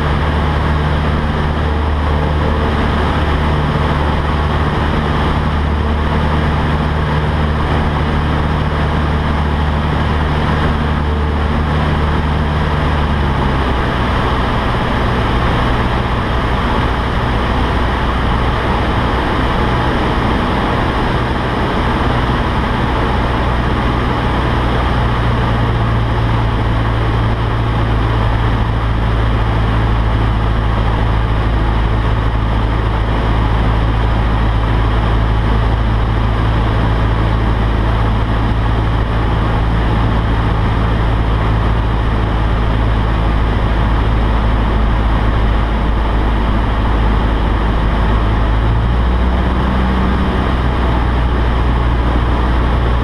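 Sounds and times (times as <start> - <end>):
light aircraft engine and propeller: 0.0 - 53.0.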